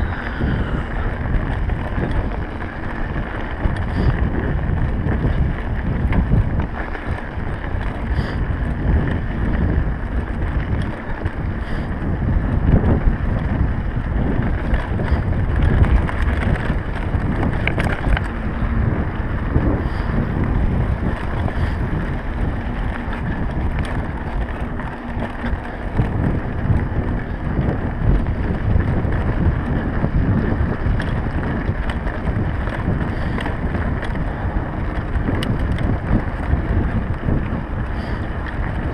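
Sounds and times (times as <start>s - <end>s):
bike clicks and rattles: 0.0s - 38.9s
tyres rolling on gravel: 0.0s - 38.9s
wind buffeting microphone: 0.0s - 38.9s.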